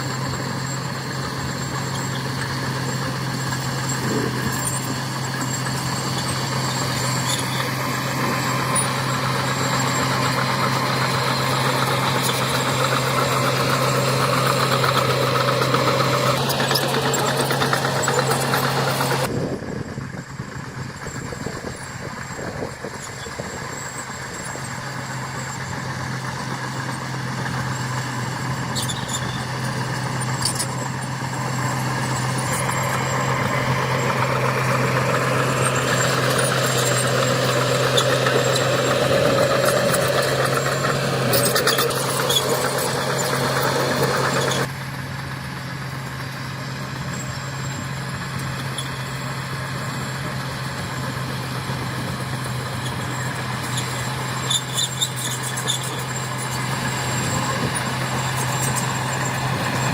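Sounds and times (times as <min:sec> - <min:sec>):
heavy machinery diesel engine: 0:00.0 - 0:59.9
light high clicks and squeaks: 0:03.6 - 0:19.2, 0:20.9 - 0:44.7, 0:47.0 - 0:50.4, 0:52.4 - 0:59.9.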